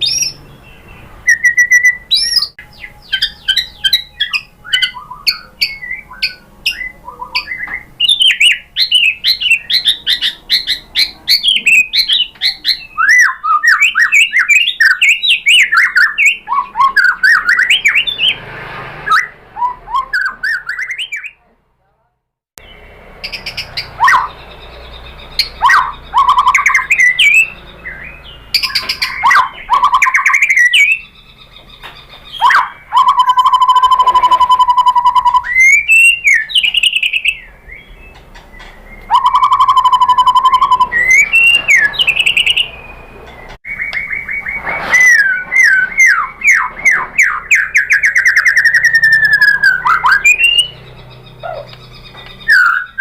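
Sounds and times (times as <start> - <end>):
songbird singing whistled trills: 0.0 - 18.4, 19.1 - 21.4, 22.6 - 53.0.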